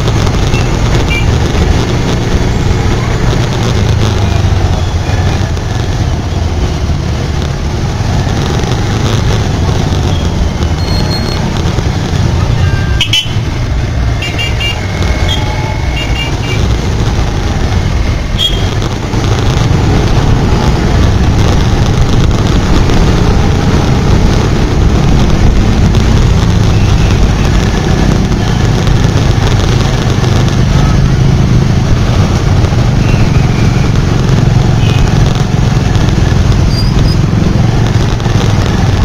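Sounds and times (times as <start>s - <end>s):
motorbike engine rumble: 0.0s - 39.0s.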